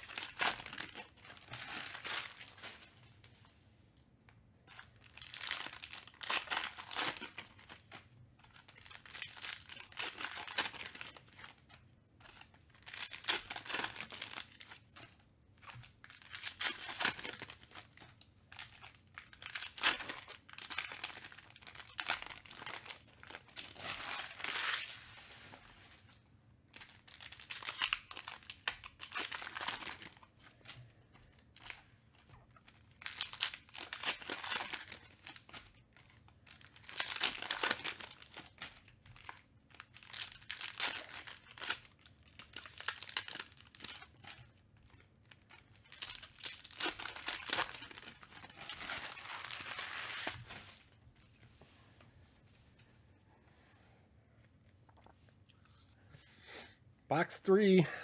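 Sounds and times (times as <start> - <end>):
foil wrappers tearing and crinkling: 0.0 - 2.9, 4.7 - 25.9, 26.8 - 30.8, 31.6 - 51.0.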